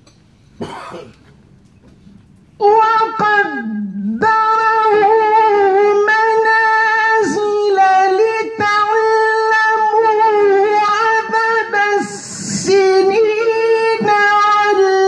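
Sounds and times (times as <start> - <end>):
man chanting melodically: 2.6 - 15.0.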